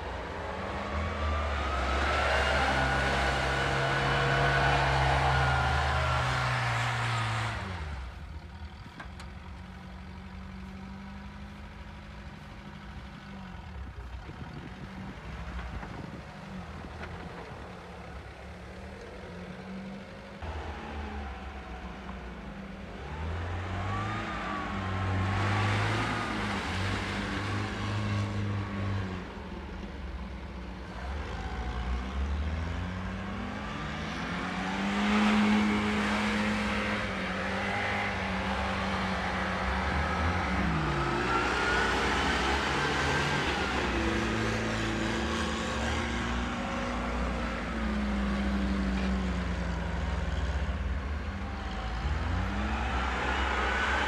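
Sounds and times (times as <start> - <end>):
off-road vehicle engines revving: 0.0 - 54.0.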